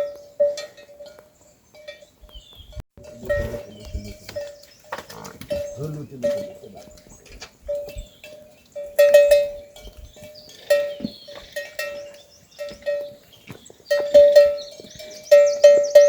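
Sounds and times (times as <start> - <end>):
livestock bells clanking: 0.0 - 16.0.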